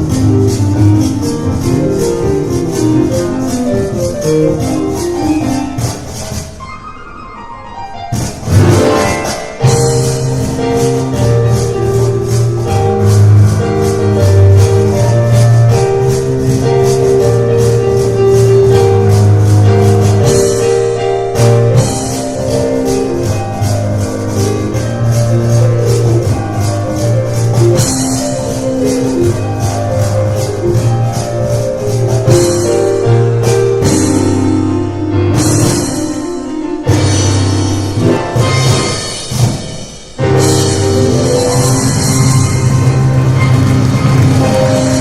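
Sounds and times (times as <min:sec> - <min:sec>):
cajon percussion beat: 0:00.0 - 0:07.0, 0:08.1 - 0:45.0
piano chords and runs: 0:00.0 - 0:45.0.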